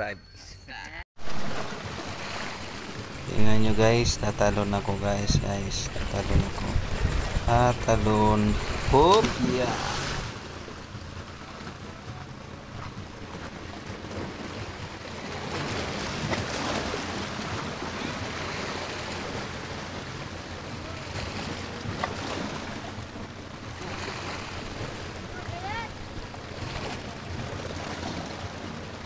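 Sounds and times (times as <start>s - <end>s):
waves splashing against rocks: 1.2s - 29.0s
wind buffeting microphone: 1.2s - 29.0s.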